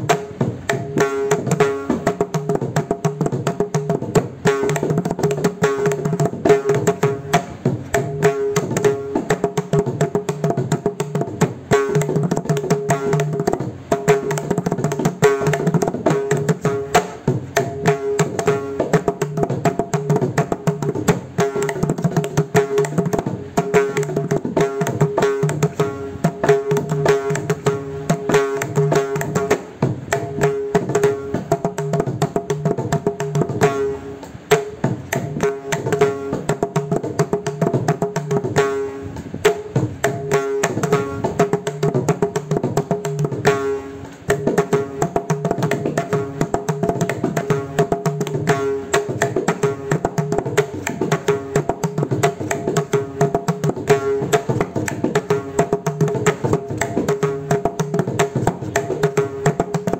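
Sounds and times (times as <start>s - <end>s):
hand drum fast strokes: 0.0s - 59.9s.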